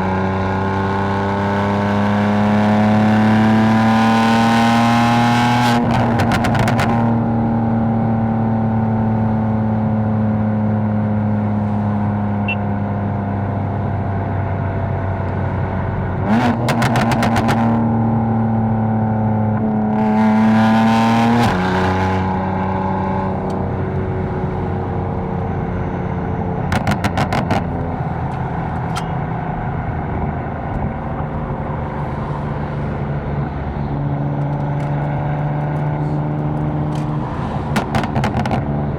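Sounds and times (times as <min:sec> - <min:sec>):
car engine cruising: 0:00.0 - 0:38.9.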